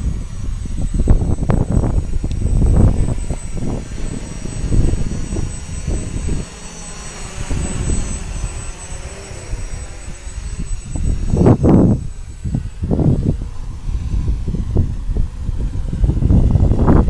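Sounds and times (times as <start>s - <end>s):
drone propellers whirring: 0.0s - 17.0s
wind buffeting on microphone: 0.0s - 17.0s.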